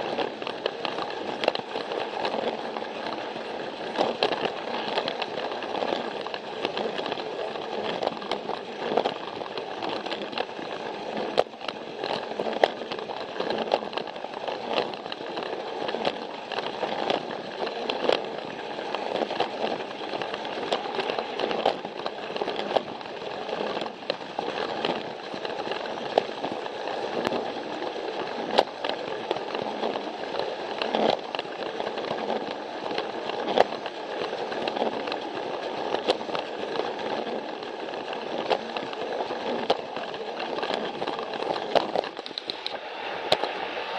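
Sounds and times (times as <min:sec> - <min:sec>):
toy train motor whirring: 0:00.0 - 0:43.9
wheels clicking over track joints: 0:00.0 - 0:43.9.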